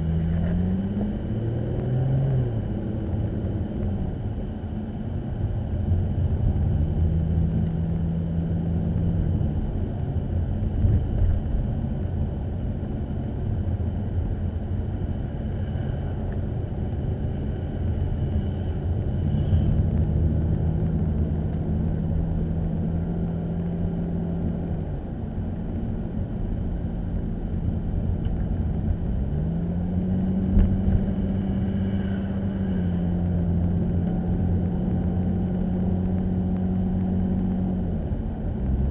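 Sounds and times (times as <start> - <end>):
engine hum: 0.0 - 38.9
low road rumble: 0.0 - 38.9.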